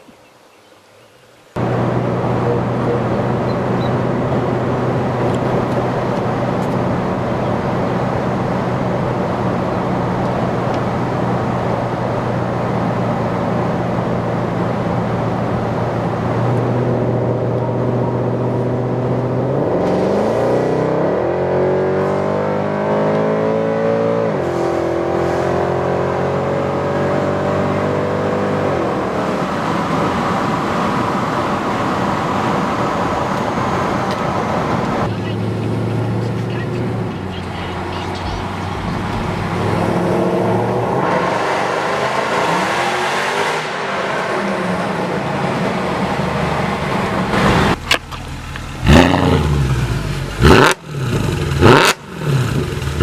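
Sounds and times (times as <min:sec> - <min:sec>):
car engine accelerating: 0:01.6 - 0:53.0.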